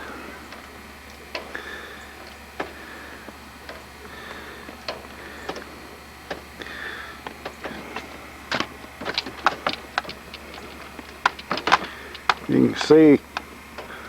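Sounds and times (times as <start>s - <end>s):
faint low hum: 0.0s - 14.0s
sharp ticks and clicks: 0.5s - 14.0s.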